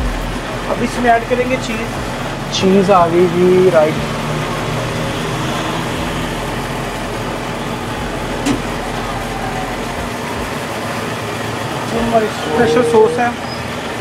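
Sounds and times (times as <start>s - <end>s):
kitchen machinery drone: 0.0s - 14.0s.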